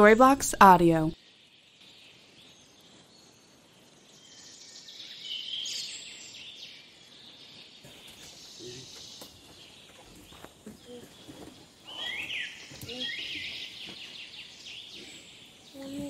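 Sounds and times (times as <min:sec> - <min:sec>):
birds calling and chirping: 0:00.0 - 0:16.0
insect hiss: 0:01.1 - 0:16.0.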